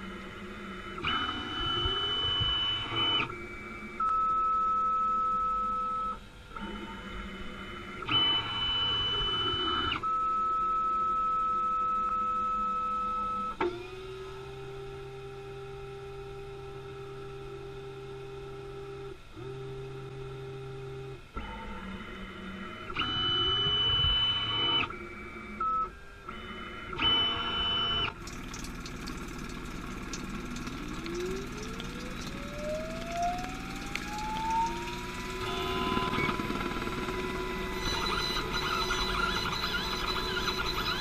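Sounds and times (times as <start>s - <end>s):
milling machine motors whining: 0.0s - 41.0s.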